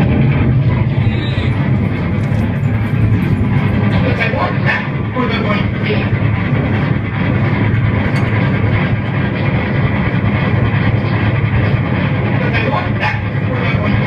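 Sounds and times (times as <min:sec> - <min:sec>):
harsh distorted noise music: 0:00.0 - 0:14.0.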